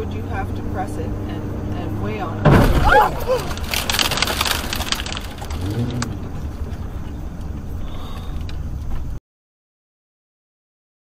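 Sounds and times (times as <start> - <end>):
low engine rumble: 0.0 - 9.2
road noise: 0.0 - 9.2.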